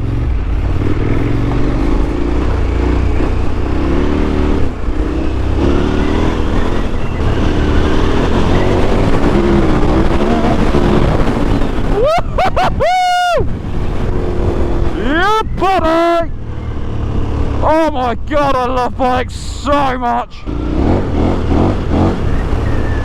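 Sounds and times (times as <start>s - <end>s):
motorcycle engine revving: 0.0s - 12.3s, 13.4s - 23.0s
wind rumble on microphone: 0.0s - 18.9s, 20.4s - 23.0s.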